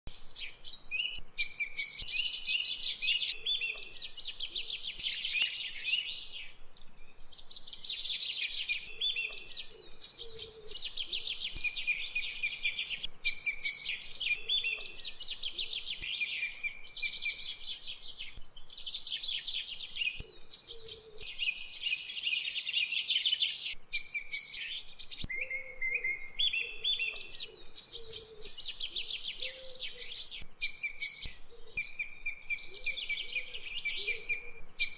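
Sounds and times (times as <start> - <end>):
birds chirping in high trills: 0.1 - 34.9.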